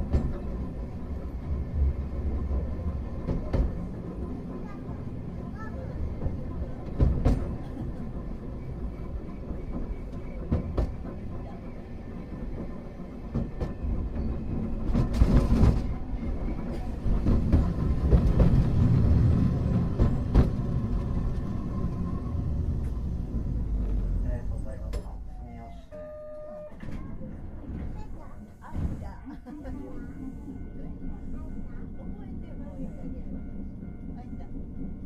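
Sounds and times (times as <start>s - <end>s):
tram wheels rumbling: 0.0s - 35.0s.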